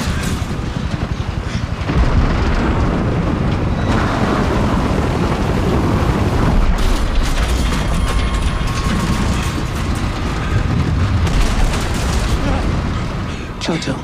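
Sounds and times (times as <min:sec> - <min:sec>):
loud explosion-like rumble: 0:00.0 - 0:13.6.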